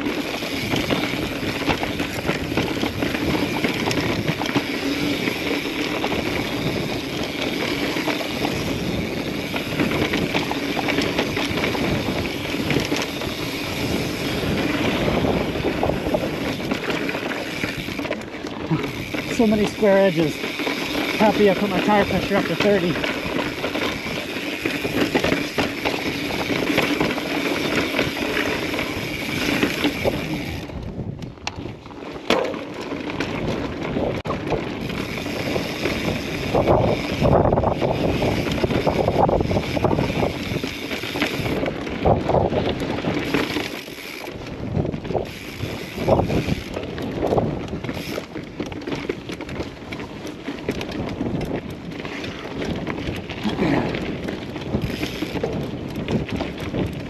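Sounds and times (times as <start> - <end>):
bike clattering and thumping: 0.0 - 57.0
bike tyres rumbling on rock: 0.0 - 57.0
wind noise on microphone: 0.0 - 57.0.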